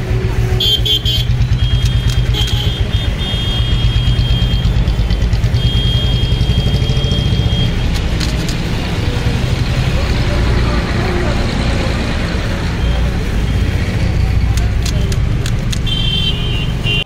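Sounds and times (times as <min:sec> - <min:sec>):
engine idling: 0:00.0 - 0:16.2.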